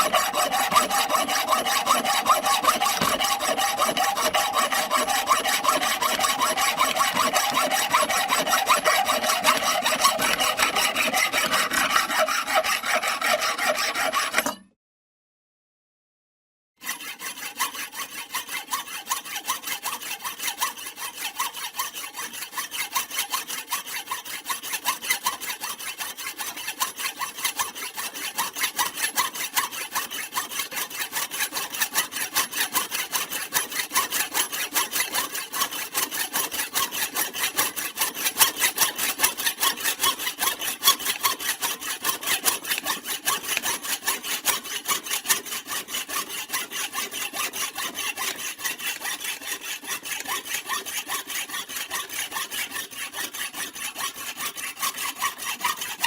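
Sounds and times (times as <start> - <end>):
hand saw cutting wood: 0.0 - 14.8, 16.8 - 56.0.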